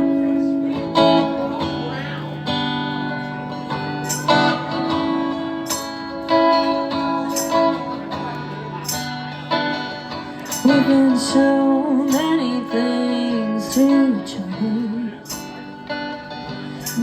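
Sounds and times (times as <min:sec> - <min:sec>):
guitar chords ringing: 0:00.0 - 0:17.0.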